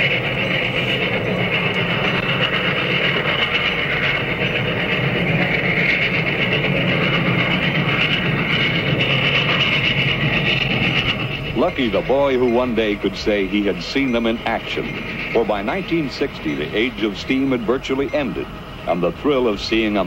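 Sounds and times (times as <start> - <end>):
locomotive wheels rolling on rails: 0.0 - 20.0.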